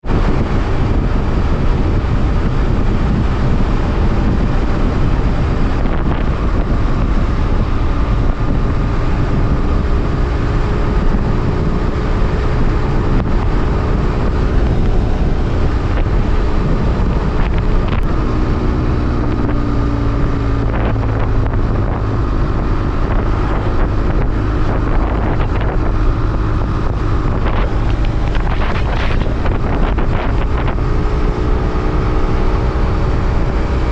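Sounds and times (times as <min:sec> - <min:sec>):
motorcycle engine running: 0:00.0 - 0:33.9
wind noise on microphone: 0:00.0 - 0:33.9.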